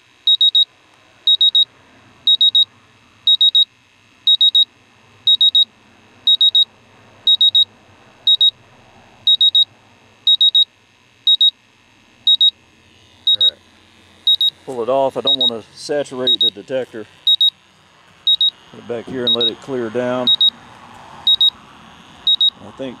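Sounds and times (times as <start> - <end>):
high-pitched alarm beeps: 0.2 - 8.6, 9.2 - 11.6, 12.2 - 12.6, 13.2 - 13.6, 14.2 - 17.6, 18.2 - 20.6, 21.2 - 22.8.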